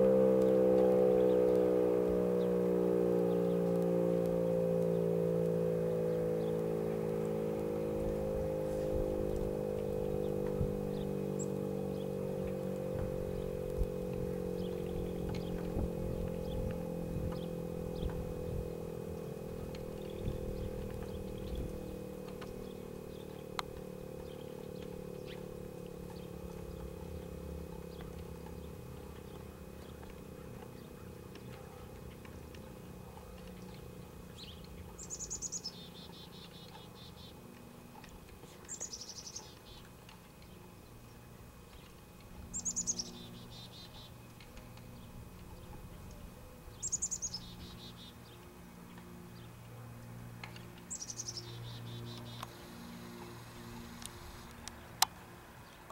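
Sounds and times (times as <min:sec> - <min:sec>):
warning siren winding down: 0:00.0 - 0:38.8, 0:48.7 - 0:54.7
birds chirping: 0:00.0 - 0:55.9.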